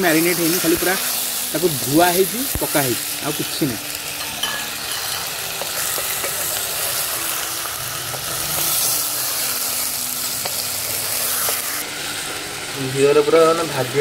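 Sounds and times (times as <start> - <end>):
meat sizzling in hot fat: 0.0 - 14.0.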